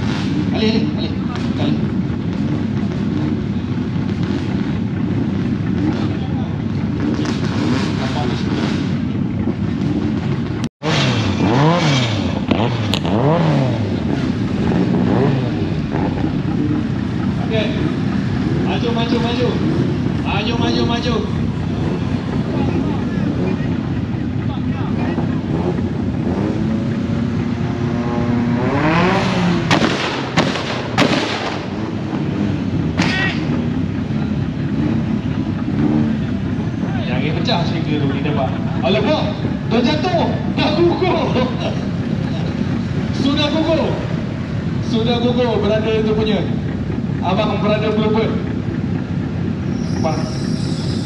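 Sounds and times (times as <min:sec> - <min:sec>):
exhaust backfire cracks: 0:00.0 - 0:50.8
car engine revving: 0:00.0 - 0:51.0.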